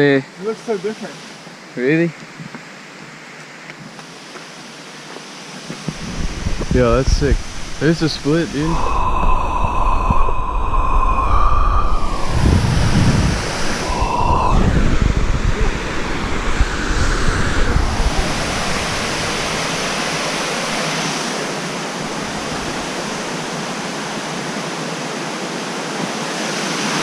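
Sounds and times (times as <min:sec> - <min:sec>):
rushing stream water roar: 0:00.1 - 0:27.0.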